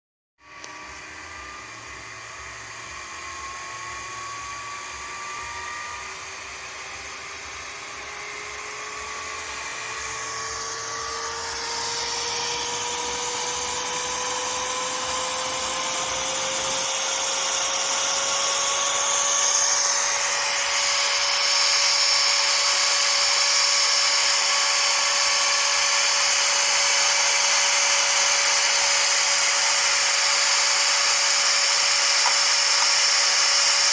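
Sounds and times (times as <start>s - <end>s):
computer cooling fan whine: 0.4s - 33.9s.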